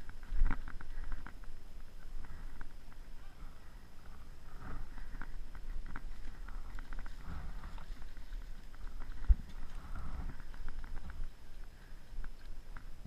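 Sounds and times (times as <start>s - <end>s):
handling rumble: 0.0s - 13.0s
leaves and twigs crackling underfoot: 0.0s - 13.0s.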